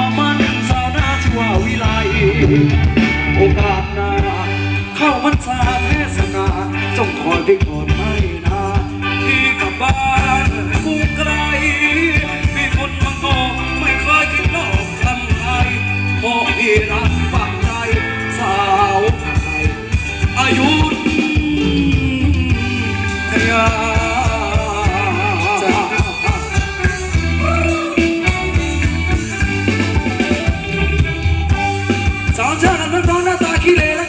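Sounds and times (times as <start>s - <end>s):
person singing: 0.0s - 31.0s
band playing dance song: 0.0s - 34.0s
drum and bass beat: 0.0s - 34.0s.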